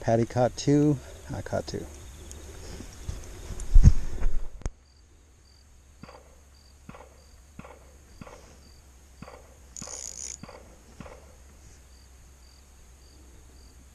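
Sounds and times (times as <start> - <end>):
cricket chirping: 0.1 - 3.7, 4.7 - 13.9.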